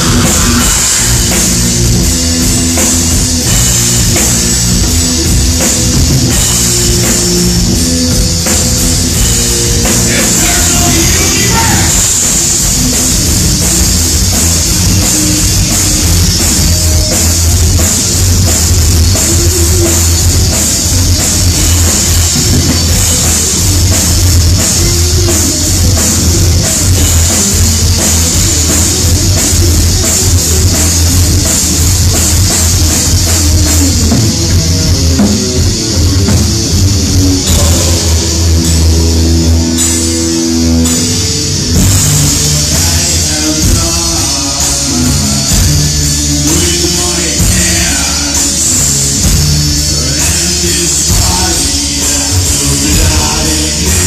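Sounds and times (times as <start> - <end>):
distorted guitar and bass: 0.0 - 54.0
drum kit beating fast: 0.0 - 54.0.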